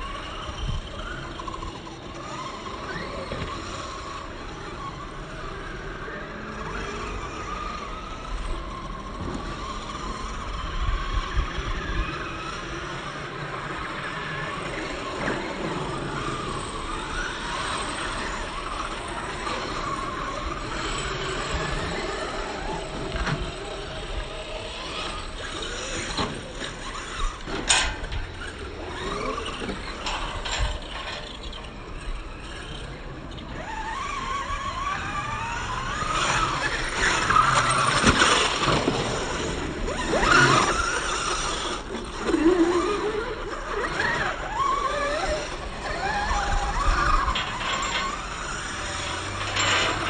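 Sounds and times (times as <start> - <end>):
rc car motors whining: 0.0 - 50.0.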